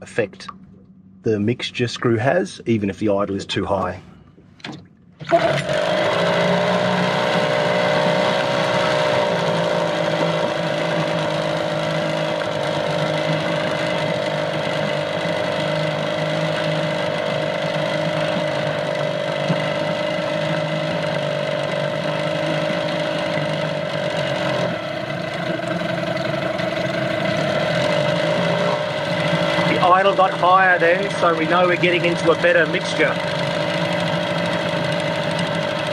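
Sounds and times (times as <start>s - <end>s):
outboard motor idling: 4.7s - 35.9s.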